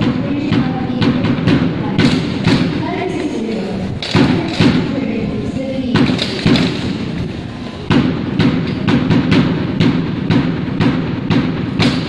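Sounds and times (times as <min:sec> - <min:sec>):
drill team stamps and slaps: 0:00.0 - 0:05.0, 0:05.9 - 0:07.3, 0:07.9 - 0:12.0
murmur of voices: 0:00.0 - 0:12.0.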